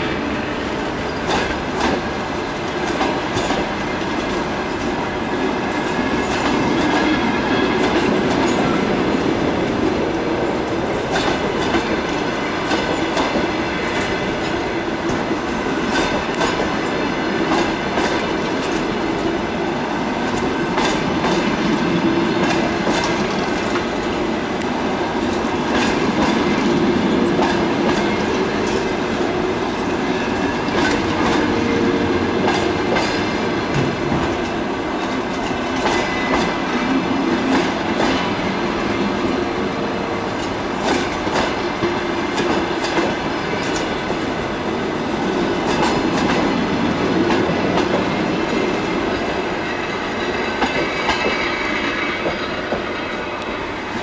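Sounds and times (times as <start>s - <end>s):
train rolling rumble: 0.0s - 54.0s
train wheels clicking over rail joints: 0.1s - 54.0s.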